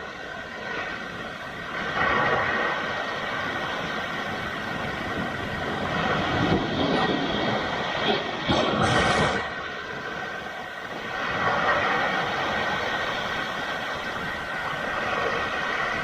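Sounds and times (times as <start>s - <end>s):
waves breaking on rocks: 0.6s - 16.0s.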